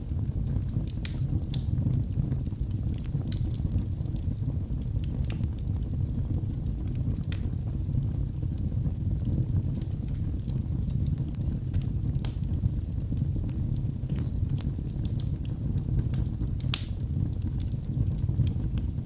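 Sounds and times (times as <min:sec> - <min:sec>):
fire rumbling: 0:00.0 - 0:19.0
logs crackling and popping: 0:00.0 - 0:19.0.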